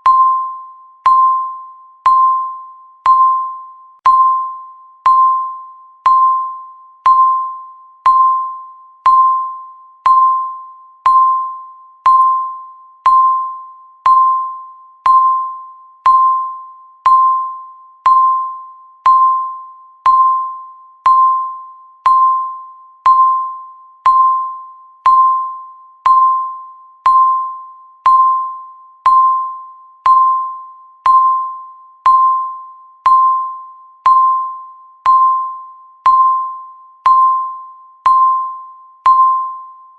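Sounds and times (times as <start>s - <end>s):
timer ticking ding tone: 0.0s - 39.9s.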